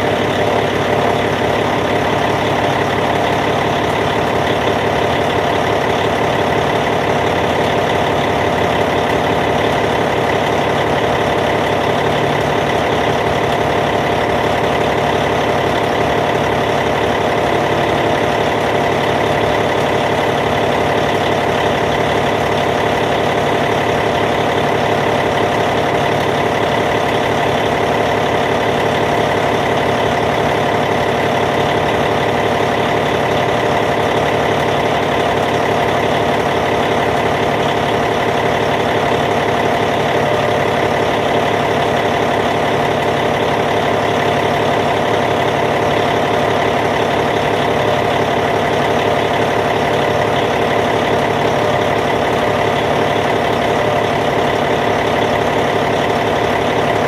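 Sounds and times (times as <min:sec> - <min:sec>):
bulldozer diesel engine idling: 0:00.0 - 0:57.0.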